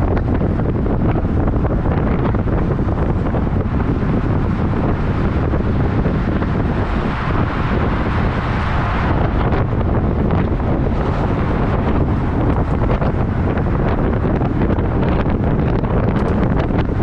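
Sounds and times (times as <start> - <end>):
truck rumbling on road: 0.0 - 17.0
wind rushing over microphone: 0.0 - 17.0.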